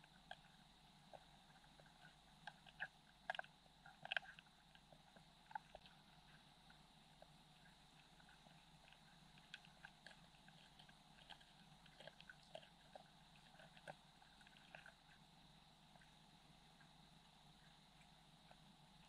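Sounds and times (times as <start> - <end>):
underwater clicks and crackles: 0.0 - 18.8
faint hum: 0.0 - 19.0.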